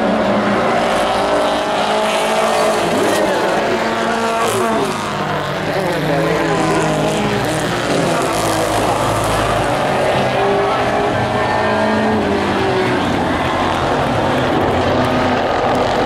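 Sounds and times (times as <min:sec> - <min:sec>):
race truck engines: 0:00.0 - 0:16.0.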